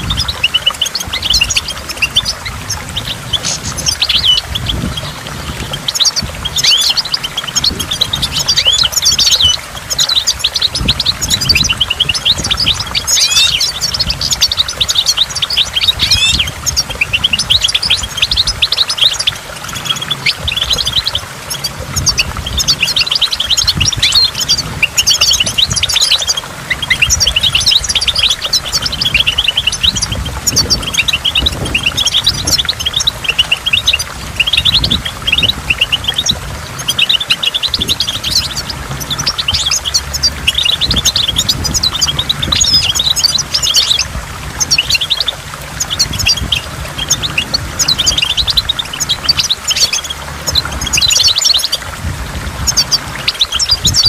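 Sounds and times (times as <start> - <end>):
goldfinch twittering: 0.0 - 54.0
rushing water: 0.0 - 54.0.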